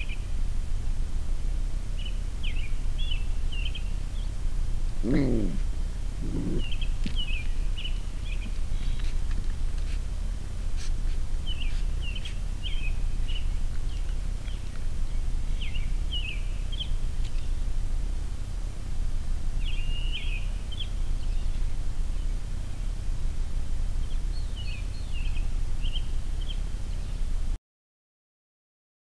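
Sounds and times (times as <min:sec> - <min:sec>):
low outdoor rumble: 0:00.0 - 0:27.6.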